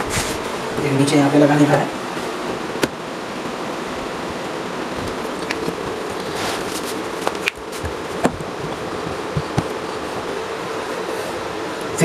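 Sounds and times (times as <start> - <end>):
fan-like background hiss: 0.0 - 12.0.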